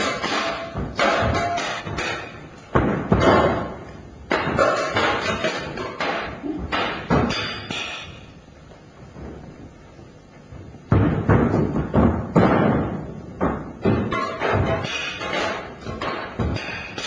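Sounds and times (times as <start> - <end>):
echoing thuds and knocks: 0.0 - 8.3, 10.5 - 17.0.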